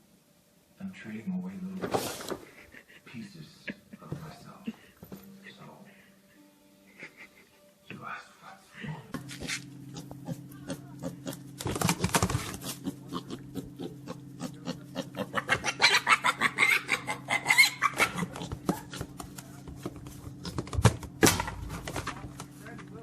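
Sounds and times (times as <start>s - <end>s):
steady low hum: 2.4s - 23.0s.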